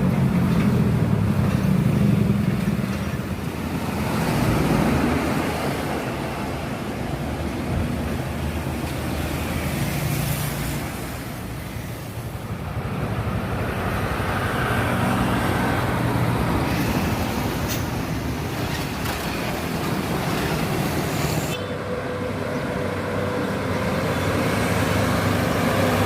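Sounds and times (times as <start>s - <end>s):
highway traffic passing: 0.0s - 26.0s.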